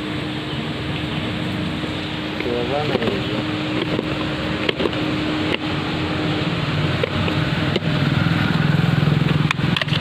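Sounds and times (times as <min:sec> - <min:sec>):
steady tone: 0:00.0 - 0:09.6
engine humming: 0:00.0 - 0:10.0.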